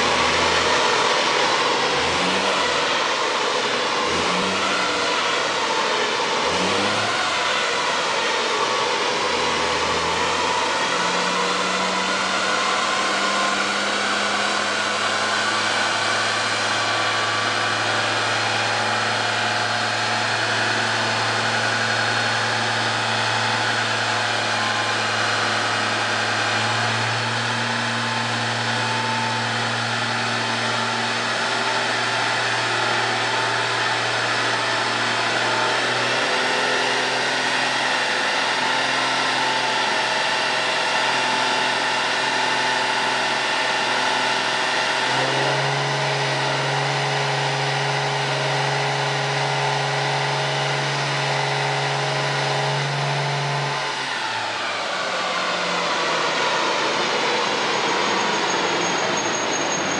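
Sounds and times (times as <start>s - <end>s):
car engine running on dyno: 0.0s - 59.9s.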